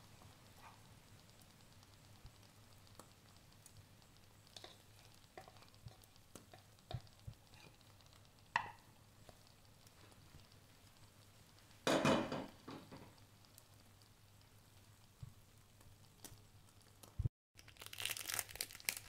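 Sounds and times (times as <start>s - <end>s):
omelette ticking in frying pan: 0.1s - 17.2s.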